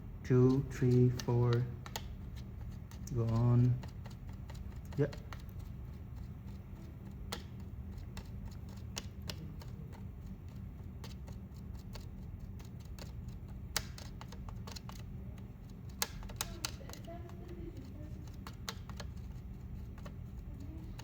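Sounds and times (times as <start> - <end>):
steady low hum: 0.0 - 21.0
light clicks and taps: 0.4 - 21.0.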